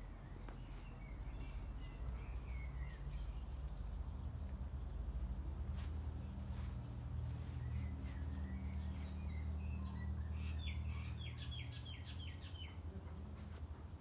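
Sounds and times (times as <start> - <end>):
small bird chirping: 0.0 - 12.9.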